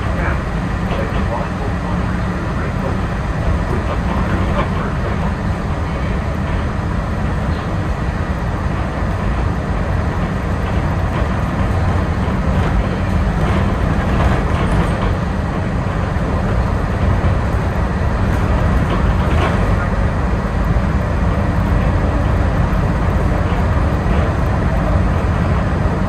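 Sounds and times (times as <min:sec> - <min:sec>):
monorail train running rumble: 0:00.0 - 0:26.0.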